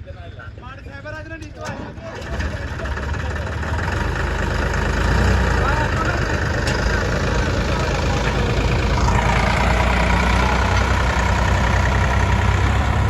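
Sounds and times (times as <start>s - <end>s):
diesel machinery rumbling: 0.9s - 13.0s.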